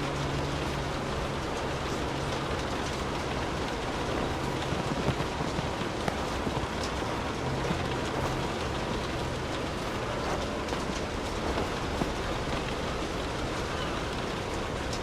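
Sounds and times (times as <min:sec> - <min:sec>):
steady rain hiss: 0:00.0 - 0:15.0
raindrop taps: 0:00.1 - 0:15.0.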